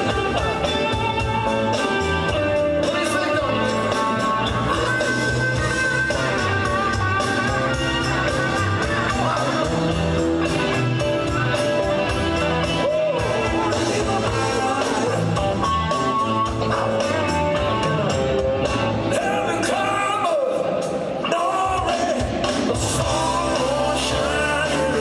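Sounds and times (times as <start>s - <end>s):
person singing: 0.0s - 18.5s, 19.1s - 25.0s
rock band playing: 0.0s - 25.0s.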